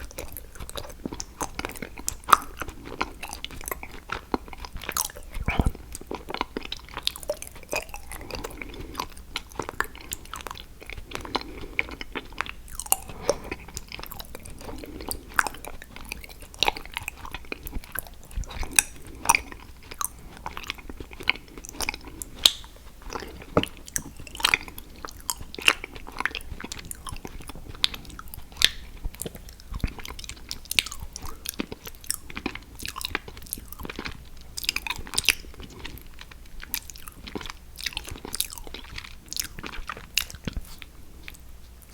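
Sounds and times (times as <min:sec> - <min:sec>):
chewing hard chocolate: 0:00.0 - 0:41.9.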